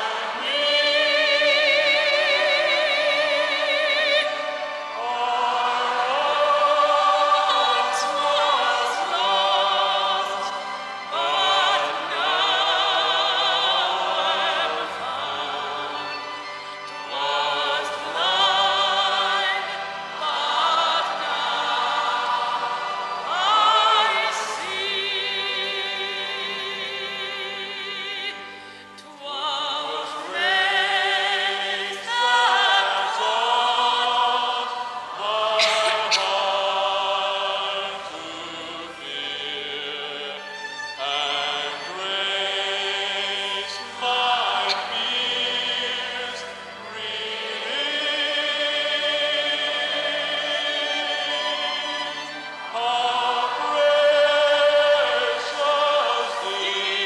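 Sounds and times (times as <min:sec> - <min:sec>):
operatic soprano singing: 0:00.0 - 0:57.0
other voices singing: 0:00.0 - 0:57.0.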